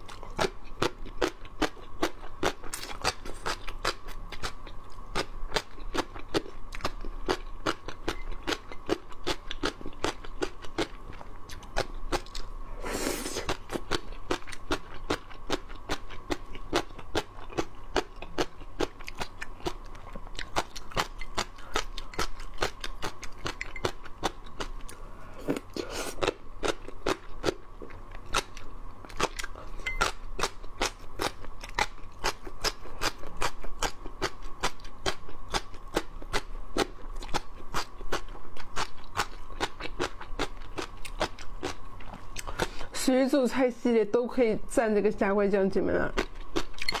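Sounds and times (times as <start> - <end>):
crunching and chewing: 0.0 - 12.6, 13.2 - 42.9, 46.1 - 47.0.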